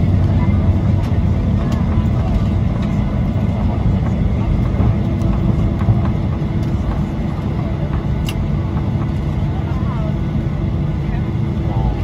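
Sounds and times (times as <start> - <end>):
aircraft engine rumble: 0.0 - 12.0
faint passenger voices: 0.0 - 12.0.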